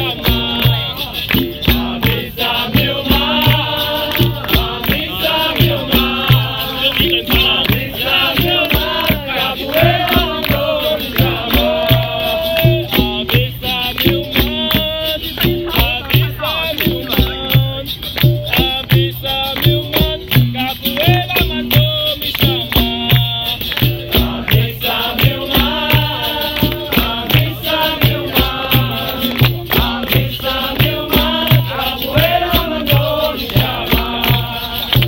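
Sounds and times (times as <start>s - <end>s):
shaken rattle: 0.0s - 35.0s
sharp percussion strokes: 0.0s - 35.0s
steady low drum beat: 0.0s - 35.0s
voices singing: 0.0s - 35.0s.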